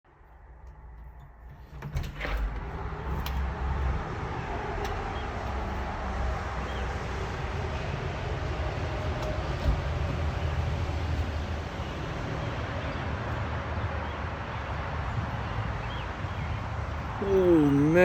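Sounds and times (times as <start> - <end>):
moving vehicle rumble: 0.1 - 18.0.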